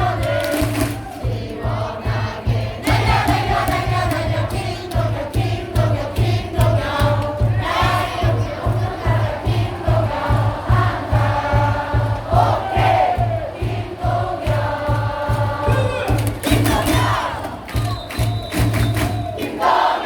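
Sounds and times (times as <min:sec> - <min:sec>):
low drum beat: 0:00.0 - 0:19.4
crowd singing in unison: 0:00.0 - 0:20.0.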